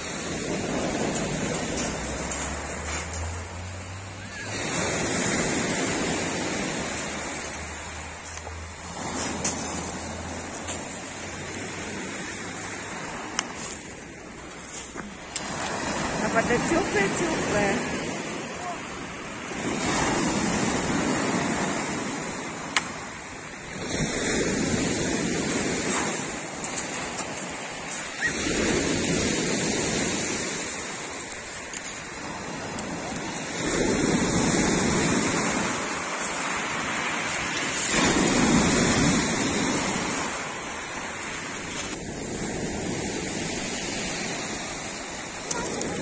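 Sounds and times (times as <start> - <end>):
surf washing up pebble beach: 0.0 - 46.0.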